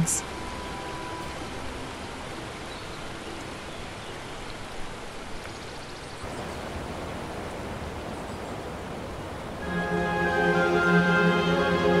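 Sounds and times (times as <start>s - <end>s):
outdoor ambience rushing noise: 0.0s - 12.0s.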